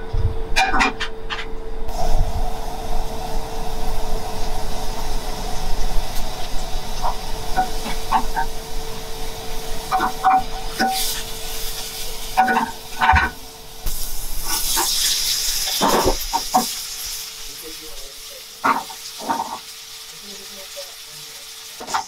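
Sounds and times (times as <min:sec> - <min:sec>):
kitchen hum: 0:00.0 - 0:22.0
garlic sizzling in frying pan: 0:01.9 - 0:22.0.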